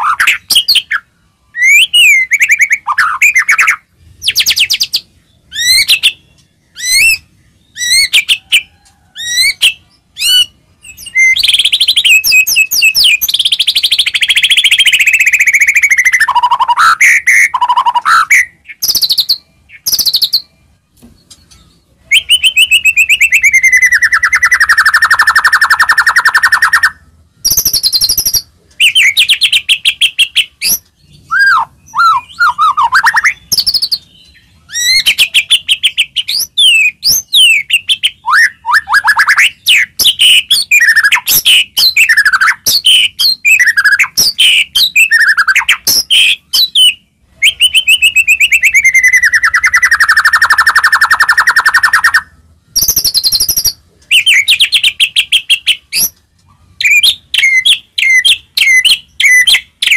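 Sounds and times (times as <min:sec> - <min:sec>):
songbird singing trills and whistles: 0:00.0 - 0:59.9.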